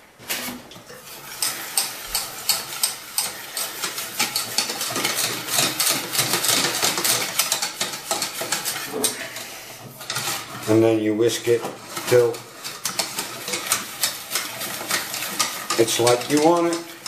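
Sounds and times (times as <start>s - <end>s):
whisk scraping a metal pan: 0.2s - 17.0s.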